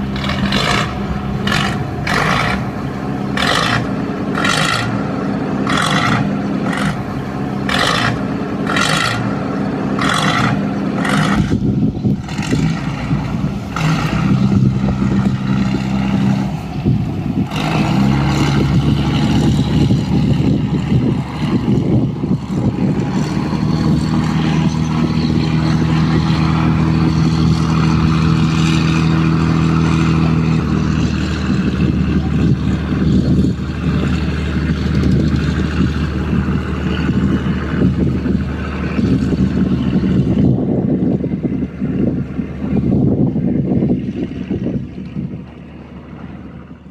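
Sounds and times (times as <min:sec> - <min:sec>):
boat diesel engine running: 0:00.0 - 0:46.9.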